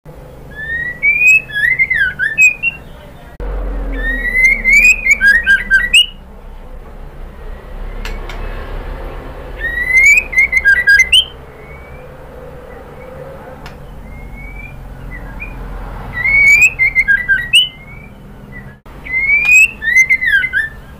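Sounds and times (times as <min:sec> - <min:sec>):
songbird singing: 0:00.1 - 0:20.9.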